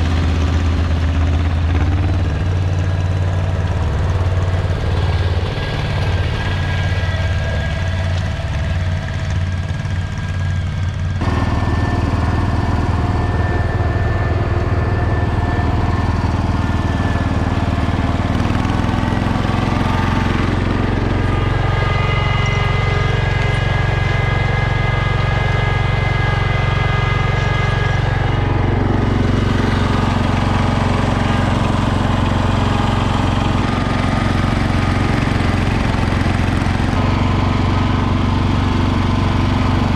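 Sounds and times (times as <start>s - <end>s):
garden tractor engines running: 0.0s - 39.9s.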